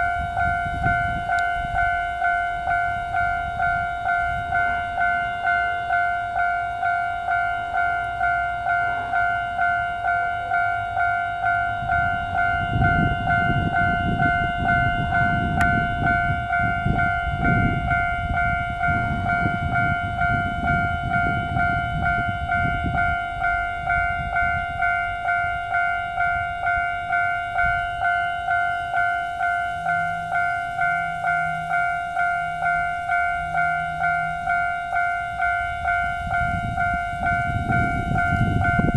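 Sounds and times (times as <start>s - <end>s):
level crossing warning bell: 0.0s - 38.9s
train rumble: 0.0s - 38.9s.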